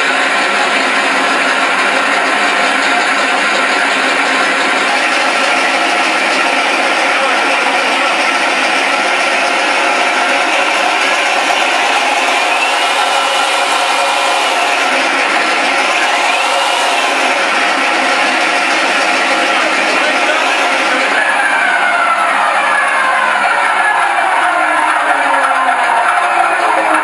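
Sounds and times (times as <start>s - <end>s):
simulated radial engine running: 0.0s - 27.0s.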